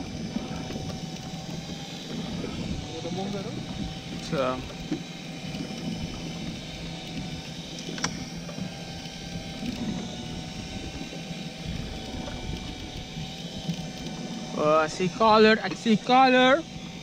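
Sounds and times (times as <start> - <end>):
fishing reel motor whirring: 0.0 - 17.0.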